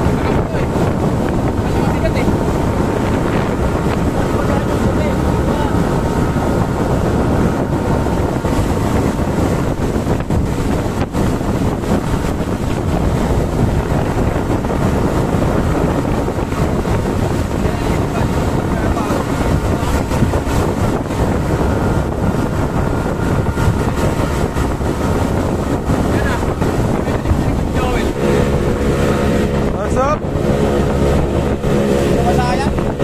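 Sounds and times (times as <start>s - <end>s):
rush of hull and spray: 0.0s - 33.0s
speedboat engine drone: 0.0s - 33.0s
wind buffeting microphone: 0.0s - 33.0s.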